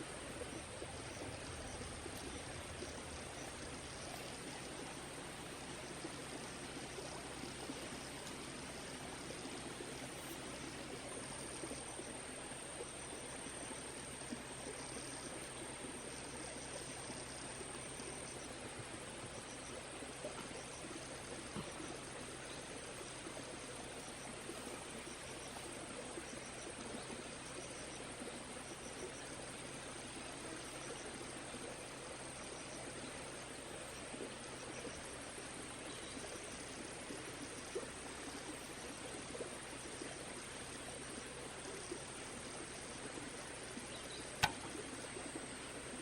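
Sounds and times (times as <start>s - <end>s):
constant hiss: 0.0s - 46.0s
faint ticks: 0.0s - 46.0s
high insect drone: 0.0s - 46.0s
stream flowing: 0.0s - 46.0s.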